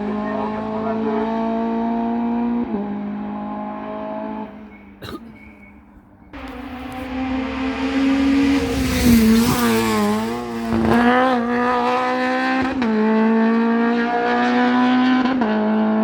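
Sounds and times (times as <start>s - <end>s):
race car engine at high revs: 0.0s - 5.0s, 6.4s - 16.0s.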